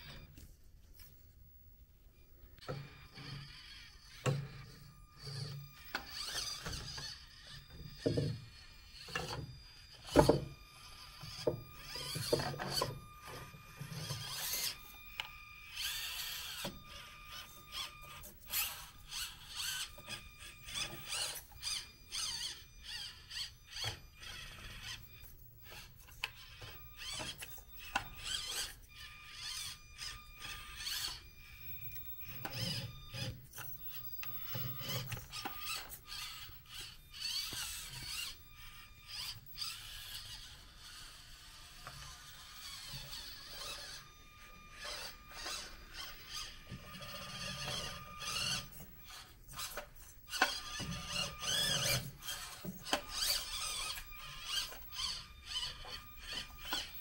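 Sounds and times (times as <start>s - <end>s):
small electric motor whining: 0.0s - 57.0s.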